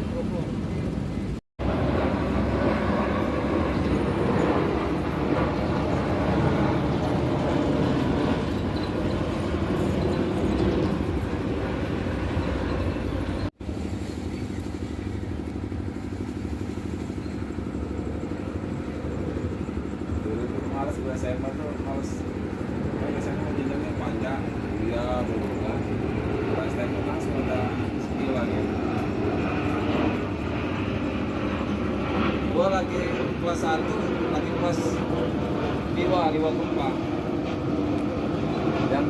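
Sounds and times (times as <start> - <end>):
low hum: 0.0 - 39.0
vehicle engine noise: 0.0 - 39.0.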